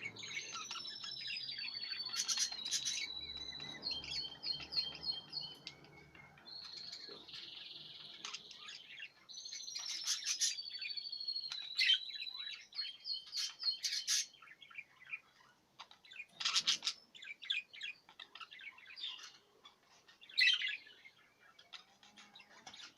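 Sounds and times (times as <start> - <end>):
budgerigars chirping and chattering: 0.0 - 22.9.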